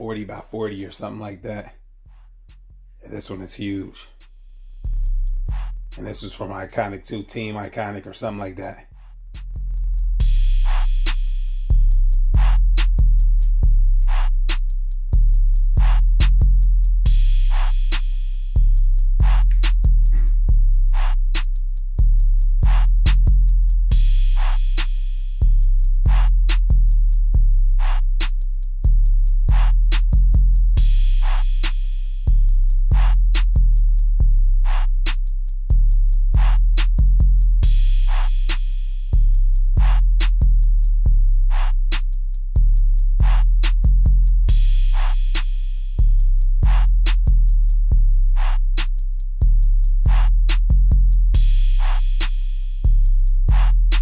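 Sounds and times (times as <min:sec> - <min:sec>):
deep bass line: 0:00.0 - 0:54.0
hip-hop drum machine beat: 0:00.0 - 0:54.0.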